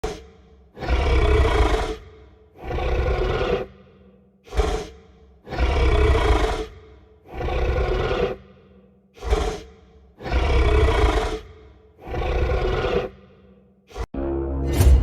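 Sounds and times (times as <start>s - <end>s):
cartoon dragon roaring: 0.8s - 14.1s.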